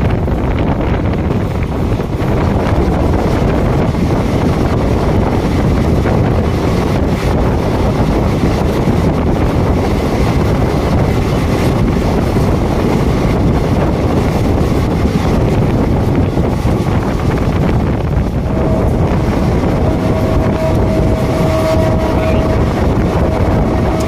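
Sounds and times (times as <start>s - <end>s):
moving train rumble: 0.0s - 24.0s
wind buffeting microphone: 0.0s - 24.0s.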